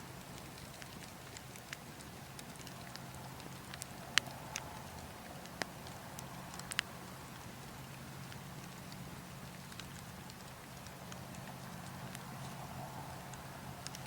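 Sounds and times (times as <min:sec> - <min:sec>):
burning logs crackling: 0:00.0 - 0:14.0
low rush of wind: 0:00.0 - 0:14.0.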